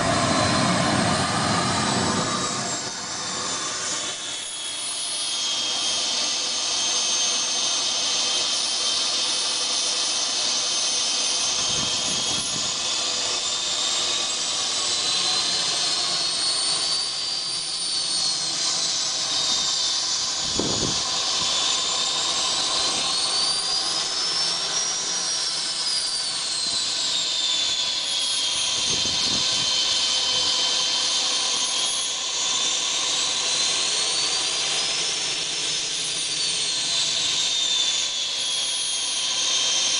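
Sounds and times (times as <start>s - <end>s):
model jet engine whining roar: 0.0s - 39.9s.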